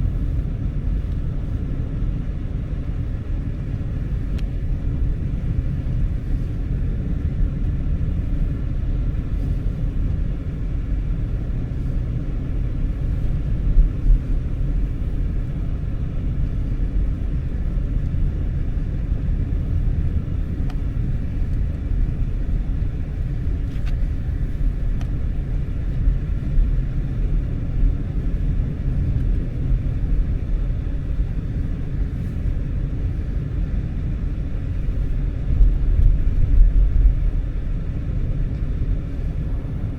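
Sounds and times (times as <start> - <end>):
road noise: 0.0 - 39.9
vehicle engine rumble: 0.0 - 39.9.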